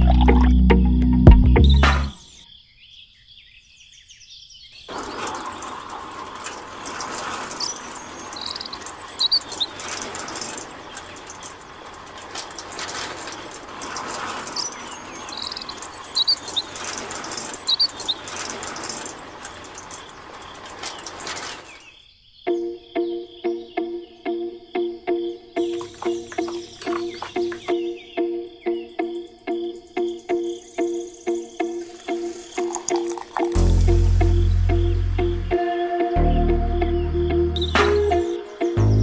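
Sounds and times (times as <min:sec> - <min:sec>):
small birds chirping: 0:00.0 - 0:35.6.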